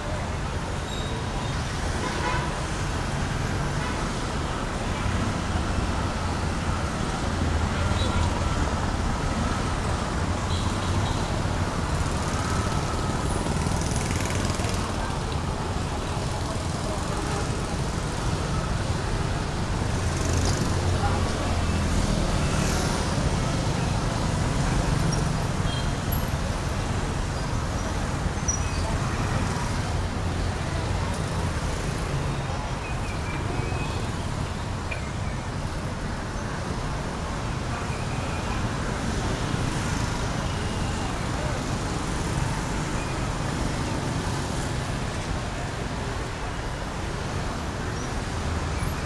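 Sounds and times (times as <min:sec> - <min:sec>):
traffic rumble: 0:00.0 - 0:49.0.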